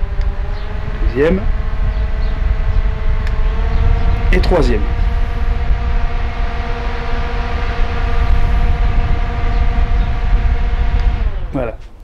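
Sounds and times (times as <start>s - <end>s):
air buffeting microphone: 0.0s - 12.0s
fan motor and blade whine: 0.0s - 12.0s.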